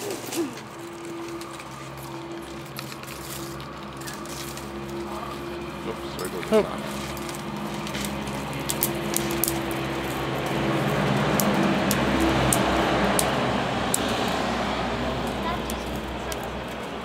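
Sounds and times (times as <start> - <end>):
reed stalks clicking: 0.0 - 17.0
vehicle engine humming: 0.0 - 17.0
vehicle passing: 0.0 - 17.0.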